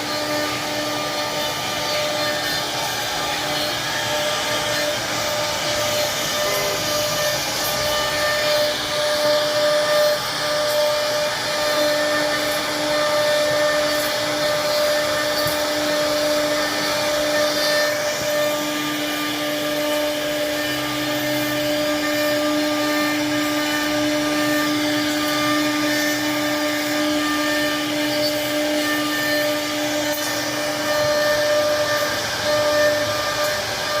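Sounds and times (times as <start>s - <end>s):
motor-driven machine whining: 0.0s - 34.0s.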